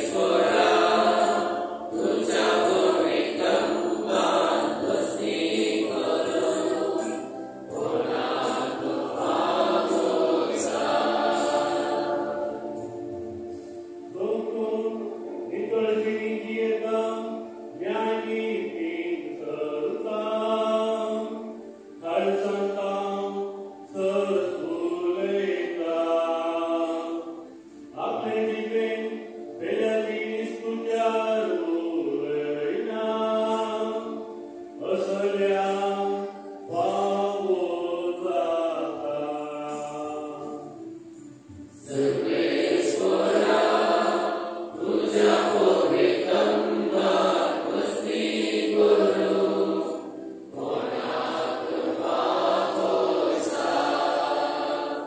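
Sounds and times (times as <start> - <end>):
church choir singing a hymn: 0.0 - 55.0.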